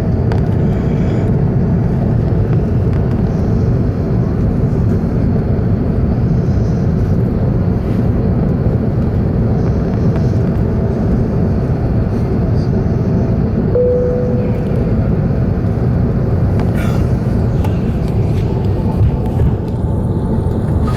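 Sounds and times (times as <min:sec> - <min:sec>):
airflow and engine rumble in cabin: 0:00.0 - 0:20.9.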